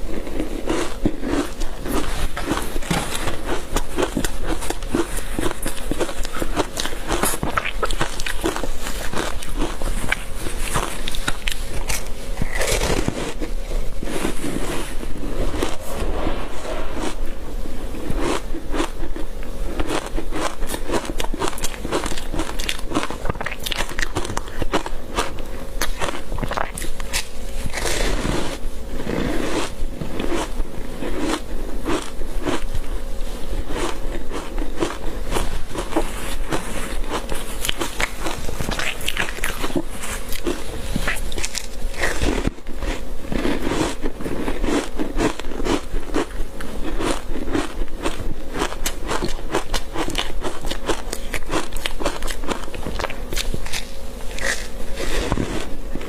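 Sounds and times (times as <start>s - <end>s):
crunching ice while chewing: 0.0s - 15.8s, 18.1s - 56.0s.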